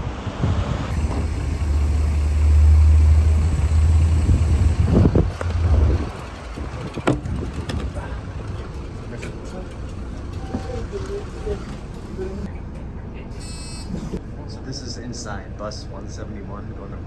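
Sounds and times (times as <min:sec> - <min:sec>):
bus engine rumbling: 0:00.0 - 0:14.6.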